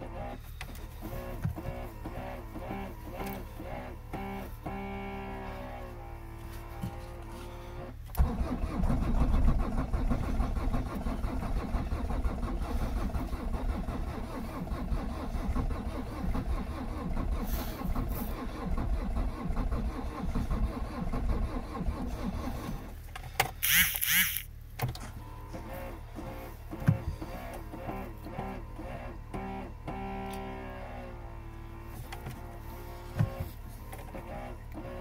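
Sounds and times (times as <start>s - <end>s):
starter motor cranking engine: 0.0s - 24.6s, 25.4s - 35.0s.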